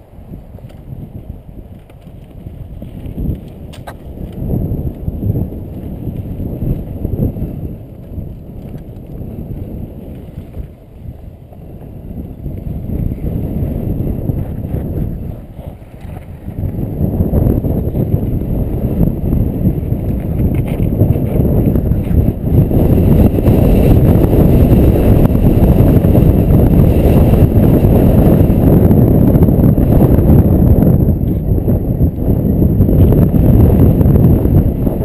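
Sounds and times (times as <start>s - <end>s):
wind on microphone: 0.0s - 35.0s
mountain bike rattling on trail: 0.5s - 35.0s.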